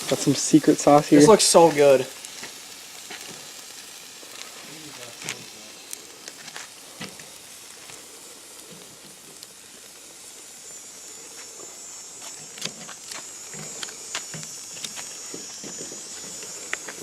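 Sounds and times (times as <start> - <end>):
higher steady hiss: 0.0 - 17.0
meat sizzling on a grill: 0.0 - 17.0.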